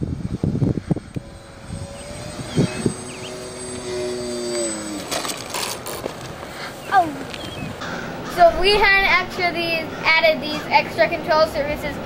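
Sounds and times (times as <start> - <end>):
electric motors humming: 0.0 - 10.0.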